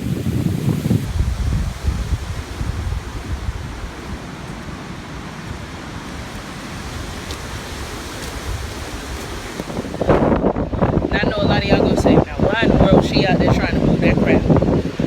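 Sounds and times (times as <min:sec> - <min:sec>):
wind gusting over microphone: 0:00.0 - 0:15.0.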